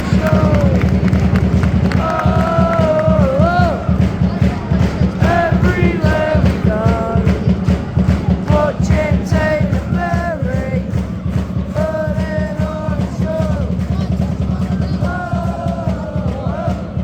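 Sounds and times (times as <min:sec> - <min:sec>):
dense steady beat: 0:00.0 - 0:17.0
song with sung vocal: 0:00.0 - 0:17.0.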